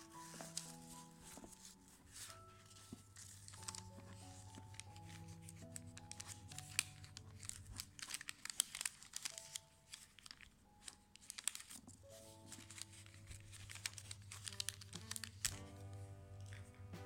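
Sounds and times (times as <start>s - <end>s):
paper crinkling: 0.0s - 16.8s
faint music: 0.0s - 17.0s.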